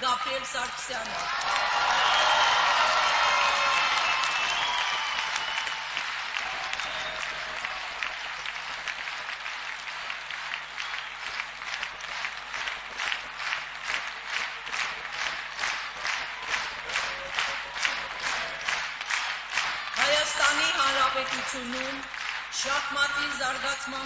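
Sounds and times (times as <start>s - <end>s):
rhythmic clapping in unison: 0.9s - 24.0s
audience applause: 1.0s - 24.0s.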